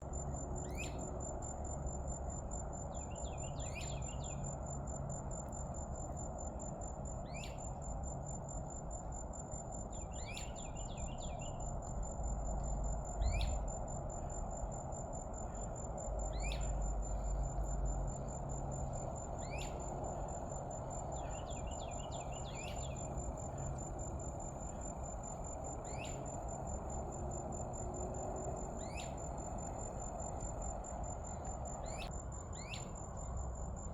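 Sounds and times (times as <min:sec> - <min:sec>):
high-pitched insect trill: 0:00.0 - 0:33.9.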